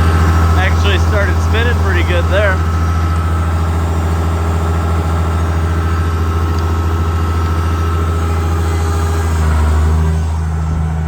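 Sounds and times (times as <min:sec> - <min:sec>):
faint steady whine: 0:00.0 - 0:11.0
tractor engine idling: 0:00.0 - 0:11.0.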